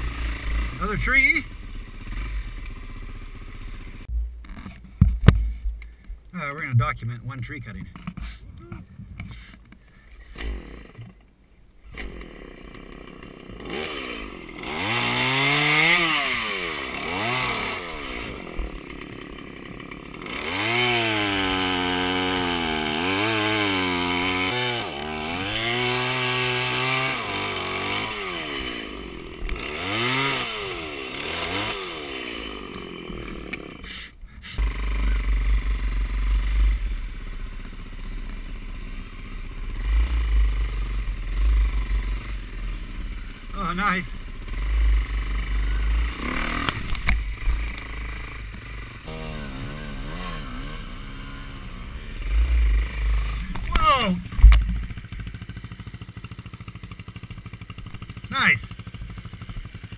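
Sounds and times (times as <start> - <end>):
dirt bike engine running: 0.0 - 11.3, 11.9 - 59.9
chainsaw cutting log: 10.3 - 11.2, 11.9 - 59.9.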